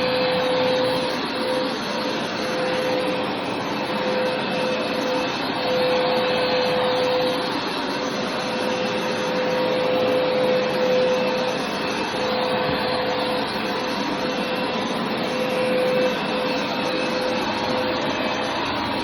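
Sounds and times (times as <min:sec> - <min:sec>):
carpet cleaner motor and suction: 0:00.0 - 0:19.0.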